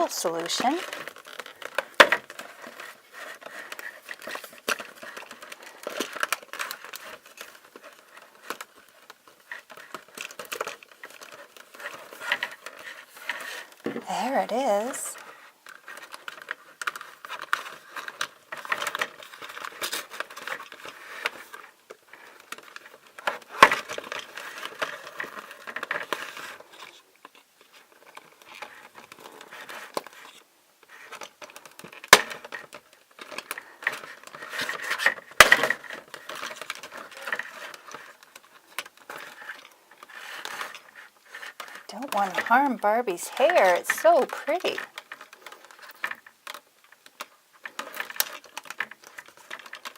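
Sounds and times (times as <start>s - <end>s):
plastic packaging crinkling: 0.0s - 49.9s.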